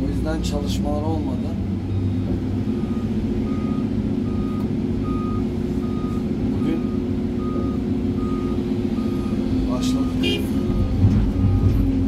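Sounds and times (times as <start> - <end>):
diesel engine drone: 0.0 - 12.0
truck reversing alarm beeping: 0.4 - 12.0.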